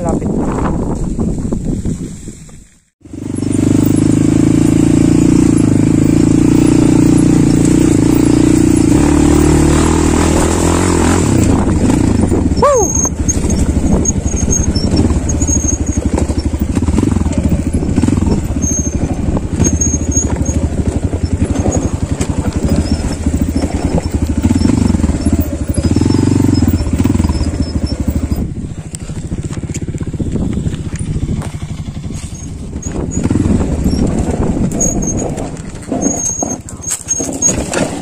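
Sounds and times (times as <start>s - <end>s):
motorcycle engine revving: 3.0s - 38.0s.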